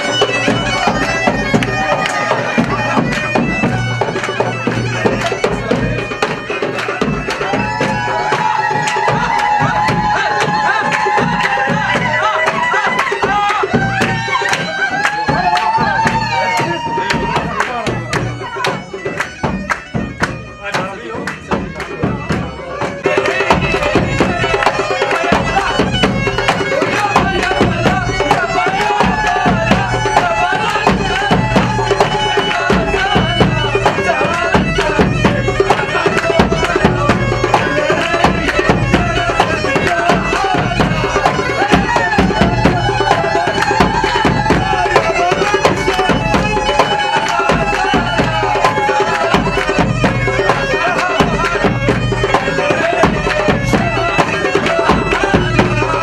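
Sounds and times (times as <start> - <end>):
fast hand drum beat: 0.0 - 56.0
reedy wind instrument melody: 0.0 - 56.0.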